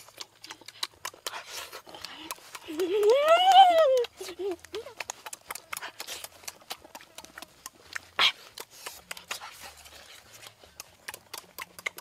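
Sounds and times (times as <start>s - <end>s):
crunchy fruit chewing: 0.0s - 3.3s, 4.0s - 12.0s.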